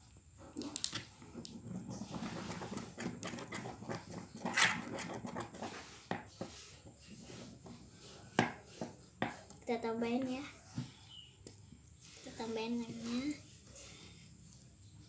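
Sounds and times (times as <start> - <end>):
slime stirred squelching: 0.6 - 14.0.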